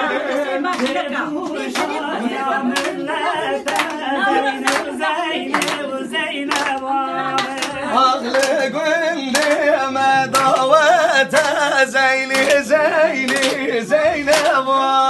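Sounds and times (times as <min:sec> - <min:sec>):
people singing a folk song: 0:00.0 - 0:15.0
hands clapping in time: 0:00.3 - 0:03.0, 0:03.6 - 0:14.8.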